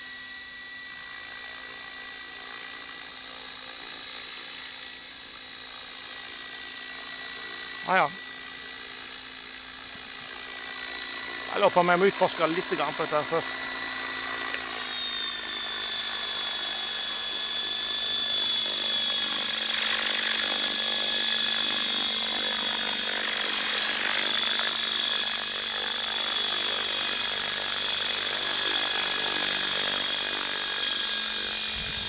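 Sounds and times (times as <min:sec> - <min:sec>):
model helicopter motor whine: 0:00.0 - 0:32.0.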